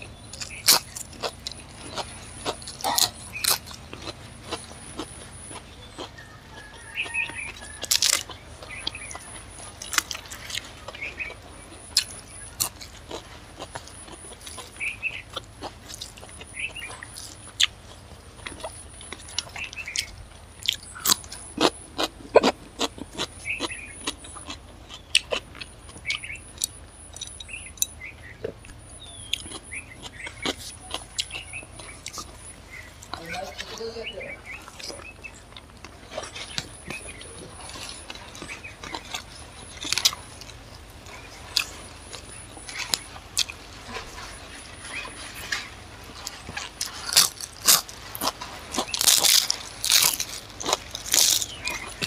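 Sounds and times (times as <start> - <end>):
chewing and mouth sounds: 0.0 - 33.7, 34.5 - 52.0
steady low hum: 0.0 - 52.0.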